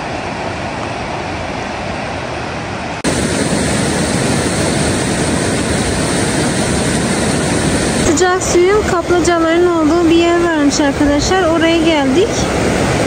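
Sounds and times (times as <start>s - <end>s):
fast river rushing over rapids: 0.0s - 13.0s.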